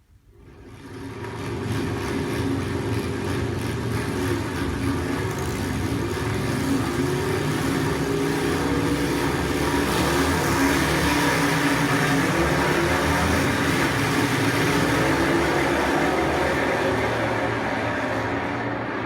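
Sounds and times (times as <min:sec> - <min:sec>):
racing car engines running: 0:00.6 - 0:19.0.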